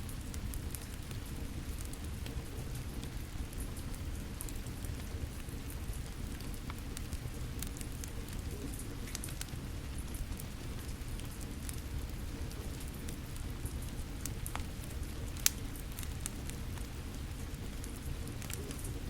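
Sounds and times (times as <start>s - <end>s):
low constant rumble: 0.0s - 19.0s
wood fire crackling: 0.0s - 19.0s.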